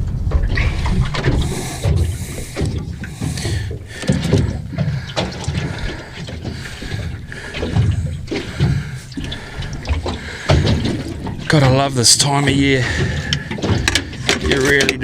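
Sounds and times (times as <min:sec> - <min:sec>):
knocks and handling noise in boat: 0:00.0 - 0:15.0
water sloshing and splashing: 0:00.0 - 0:15.0.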